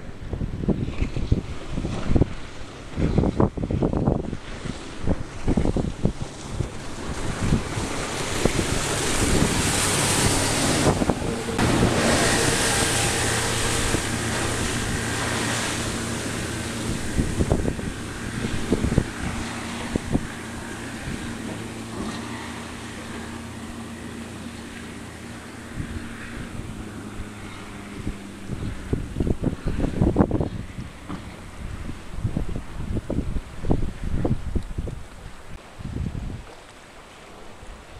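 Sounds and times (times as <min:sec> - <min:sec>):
wind noise on microphone: 0:00.0 - 0:36.7
boat engine running at speed: 0:00.0 - 0:37.9
rushing water: 0:00.0 - 0:37.9.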